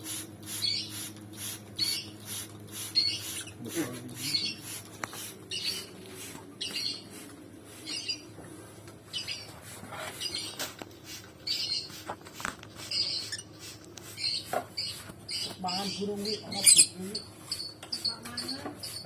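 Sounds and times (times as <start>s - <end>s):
lovebirds chirping and squawking: 0.0s - 8.4s, 9.0s - 19.0s.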